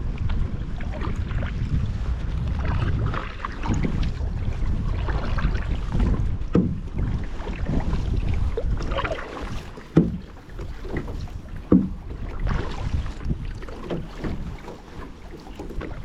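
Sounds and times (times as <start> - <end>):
wind rumble on microphone: 0.0 - 16.0
kayak paddle splashing water: 0.2 - 16.0.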